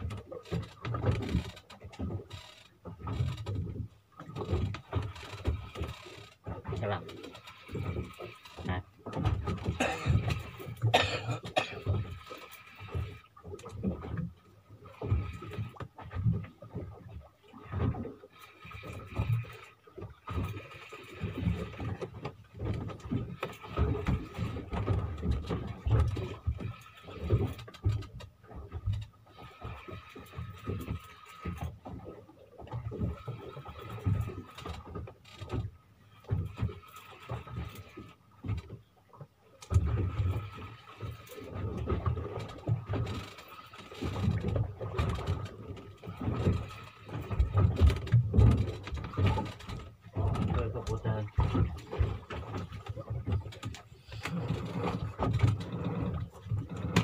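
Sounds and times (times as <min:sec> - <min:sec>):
wind and water rumbling surges: 0:00.0 - 0:57.0.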